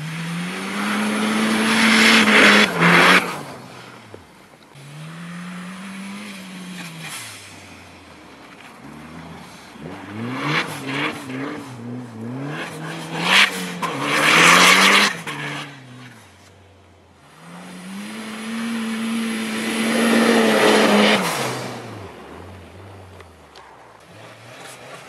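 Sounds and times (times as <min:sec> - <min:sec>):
car engine revving: 0:00.0 - 0:25.0
tyres spinning in snow: 0:00.0 - 0:25.0.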